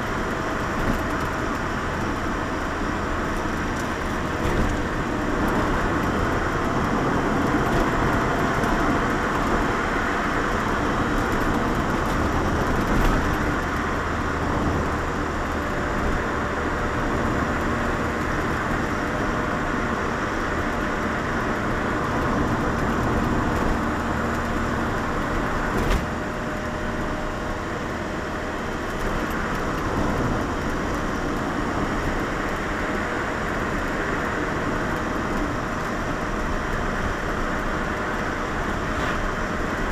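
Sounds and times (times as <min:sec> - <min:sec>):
car engine from inside cabin: 0:00.0 - 0:39.9
tyres on road: 0:00.0 - 0:39.9.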